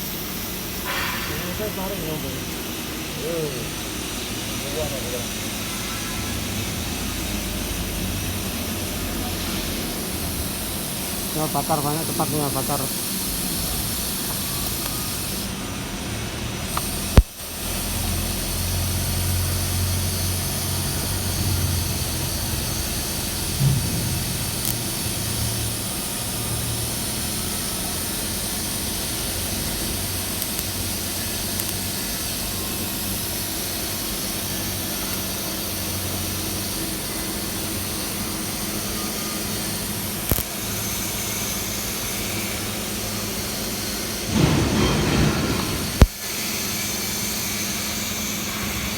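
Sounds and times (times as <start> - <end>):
welding hiss with low hum: 0.0 - 48.9.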